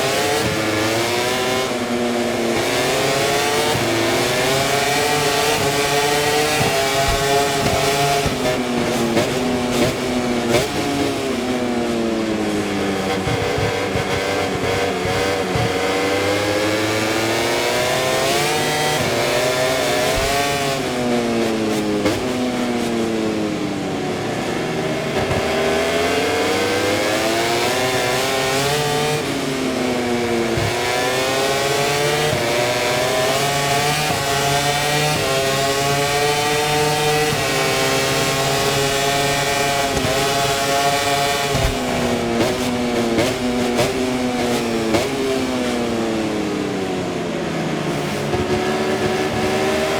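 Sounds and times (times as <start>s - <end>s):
racing motorcycle engine revving: 0.0s - 49.9s.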